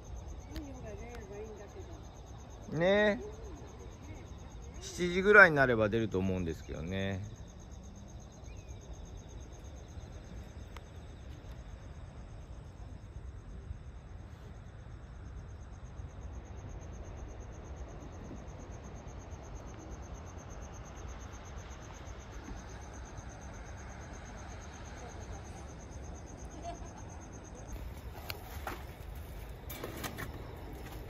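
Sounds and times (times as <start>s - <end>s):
insects chirping in pulsed trill: 0.0s - 31.0s.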